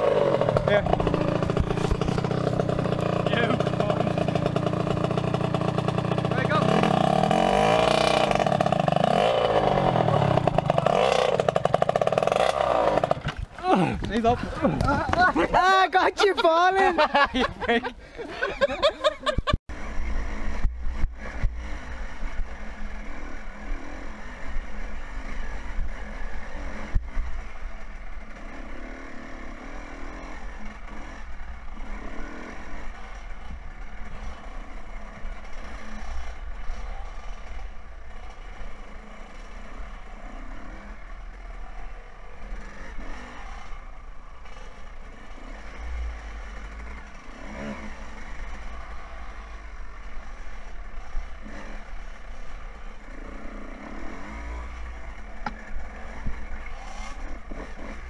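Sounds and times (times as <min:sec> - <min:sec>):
dirt bike engine revving: 0:00.0 - 0:15.6, 0:16.8 - 0:58.0.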